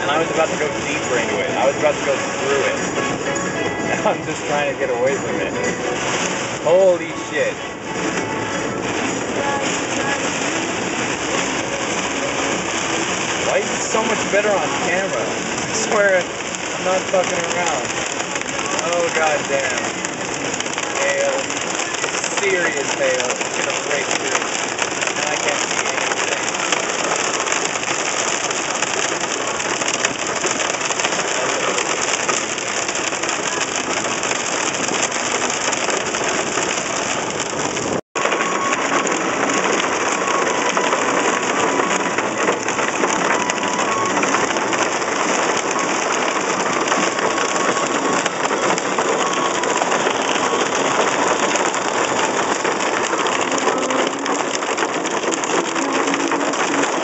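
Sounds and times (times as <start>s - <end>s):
heavy rain and hail on car roof: 0.0s - 57.0s.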